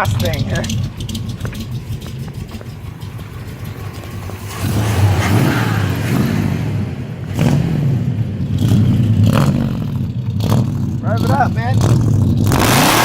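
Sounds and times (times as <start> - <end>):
truck engine idling and revving: 0.0 - 13.0.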